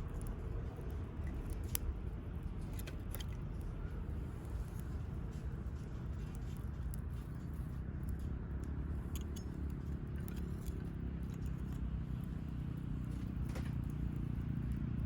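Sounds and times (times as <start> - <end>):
campfire crackling: 0.0 - 15.0
wind rumble on microphone: 0.0 - 15.0.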